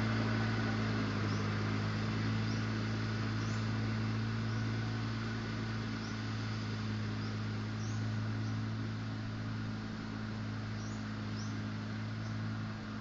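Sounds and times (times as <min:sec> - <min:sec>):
mower engine humming: 0:00.0 - 0:13.0.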